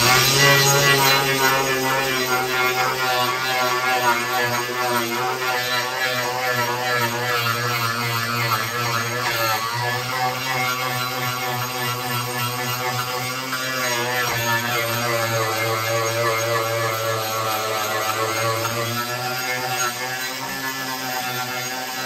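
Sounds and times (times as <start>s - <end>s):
angle grinder carving wood: 0.0s - 22.0s.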